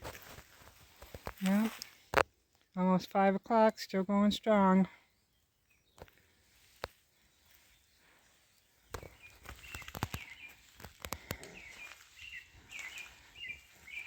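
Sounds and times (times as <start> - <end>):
songbird chirping: 0.9 - 14.0.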